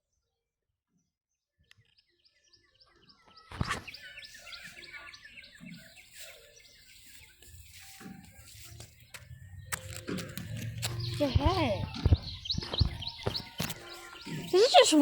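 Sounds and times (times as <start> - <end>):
small birds chirping: 1.6 - 15.0.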